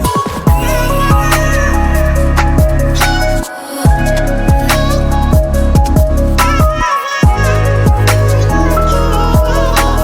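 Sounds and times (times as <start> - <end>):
electronic music with deep kicks: 0.0 - 10.0.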